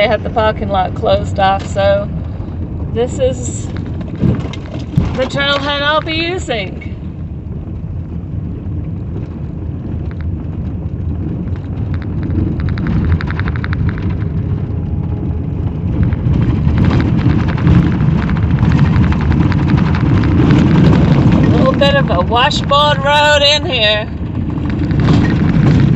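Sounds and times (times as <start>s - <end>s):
car driving on dirt road: 0.0s - 25.9s.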